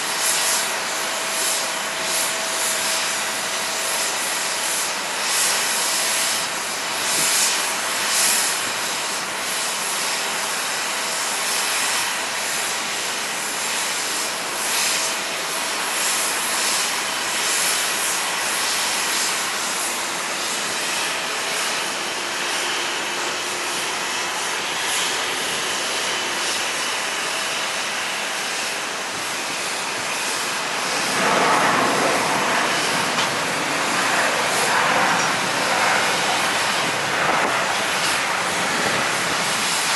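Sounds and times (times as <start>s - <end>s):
jet engines rushing hiss: 0.0s - 39.9s.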